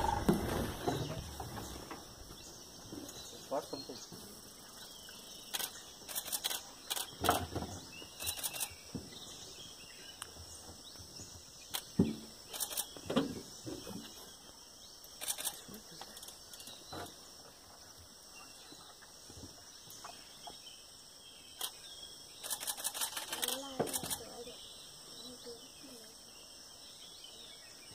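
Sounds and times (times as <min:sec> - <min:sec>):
high drone of insects: 0:00.0 - 0:27.9.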